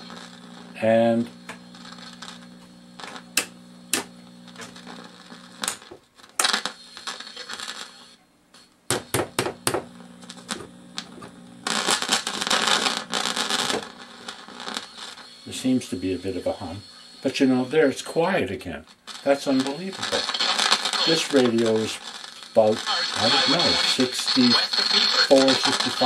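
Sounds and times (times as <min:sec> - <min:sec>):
static crackle burst: 0:00.0 - 0:08.8, 0:09.4 - 0:26.0
radio pops and crackles: 0:00.0 - 0:17.3, 0:18.8 - 0:26.0
radio speaker low hum: 0:00.0 - 0:26.0.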